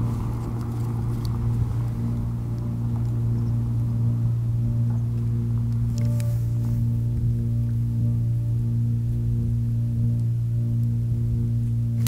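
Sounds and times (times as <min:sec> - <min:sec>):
throat singing drone with overtones: 0:00.0 - 0:12.0.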